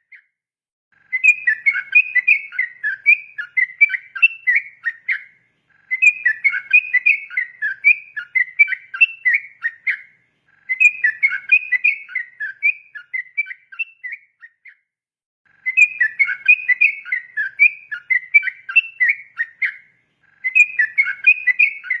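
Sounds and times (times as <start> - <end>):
bird singing bubbly whistles: 1.1 - 14.8, 15.6 - 22.0.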